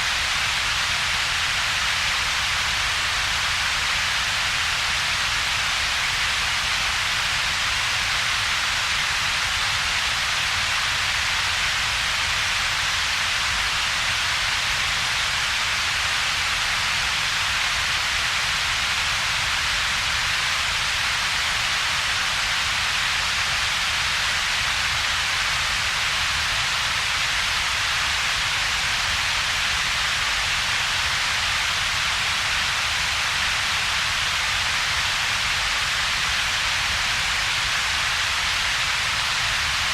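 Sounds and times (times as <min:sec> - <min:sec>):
steady synthetic hiss: 0:00.0 - 0:39.9.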